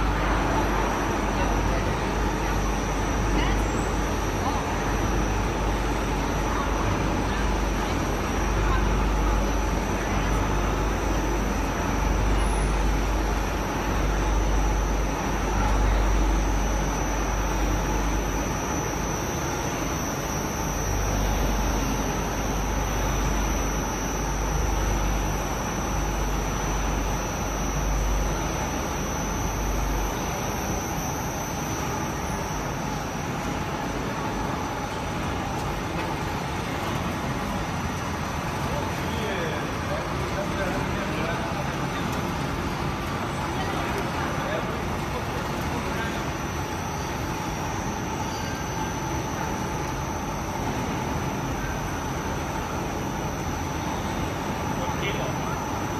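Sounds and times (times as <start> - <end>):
blowers and motors running: 0.0 - 55.9
faint high whine: 0.0 - 55.9.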